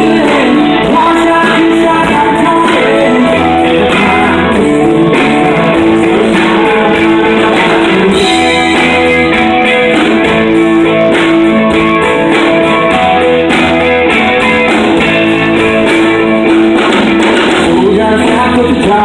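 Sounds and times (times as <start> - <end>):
person singing: 0.0 - 14.6, 17.2 - 19.0
bass line: 0.0 - 19.0
country band playing: 0.0 - 19.0
strummed guitars: 0.0 - 19.0.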